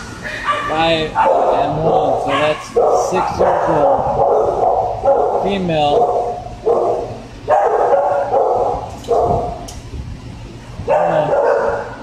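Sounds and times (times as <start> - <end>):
dogs barking with echo: 0.0 - 9.7, 10.9 - 12.0.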